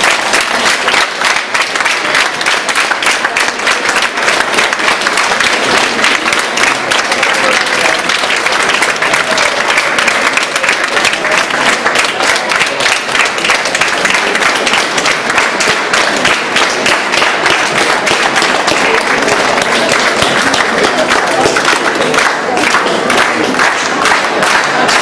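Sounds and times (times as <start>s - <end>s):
crowd applauding: 0.0s - 25.0s.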